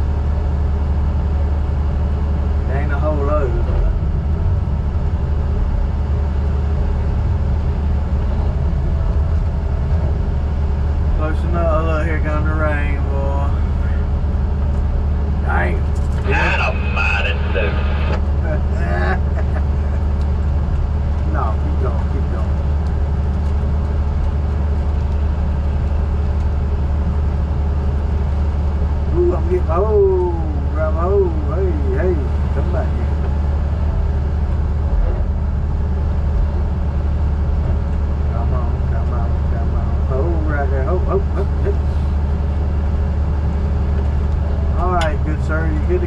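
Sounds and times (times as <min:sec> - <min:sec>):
diesel engine rumbling: 0:00.0 - 0:46.0.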